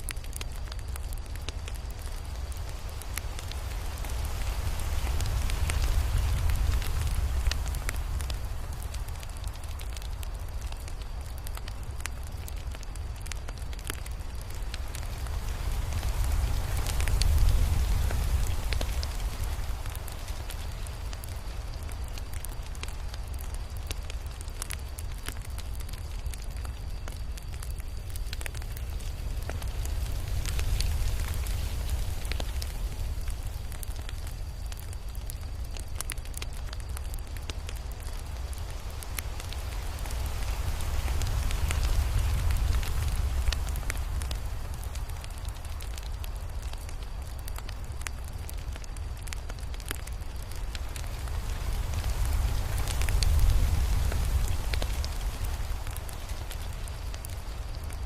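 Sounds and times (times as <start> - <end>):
fire pops and crackles: 0.0 - 58.0
low rumble of flames: 0.0 - 58.0.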